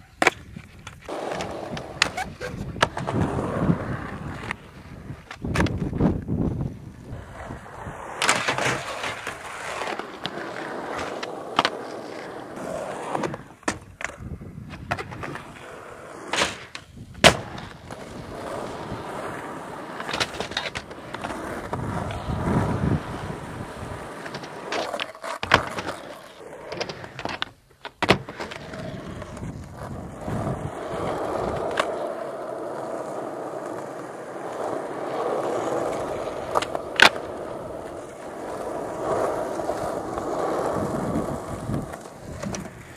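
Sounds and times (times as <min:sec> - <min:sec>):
skateboard clacks and knocks: 0:00.0 - 0:06.2, 0:07.5 - 0:42.9
skateboard wheels rumbling on tarmac: 0:00.1 - 0:42.9.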